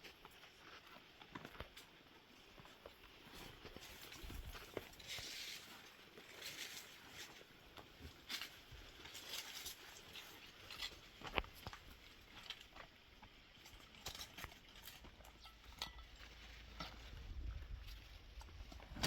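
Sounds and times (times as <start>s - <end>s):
footsteps on stony ground: 0.0s - 19.0s.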